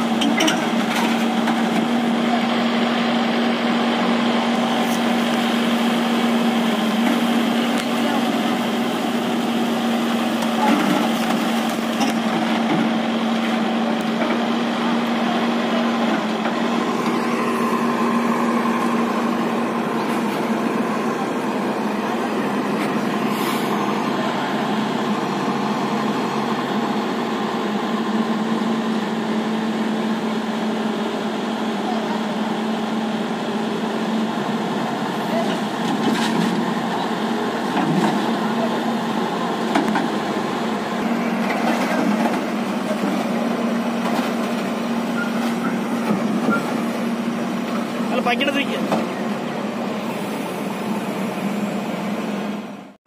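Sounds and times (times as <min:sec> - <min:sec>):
excavator diesel engine idling: 0:00.0 - 0:53.0.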